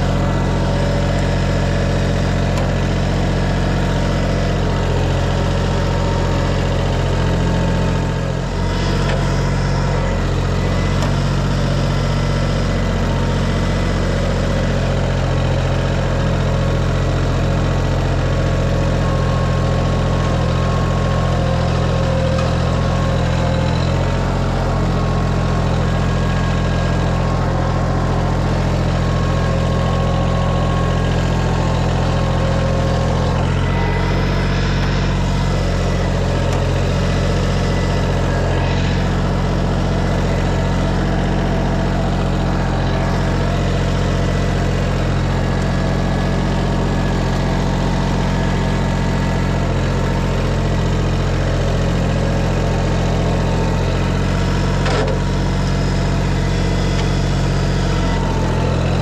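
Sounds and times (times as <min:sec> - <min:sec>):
motor engine running: 0:00.0 - 0:59.0.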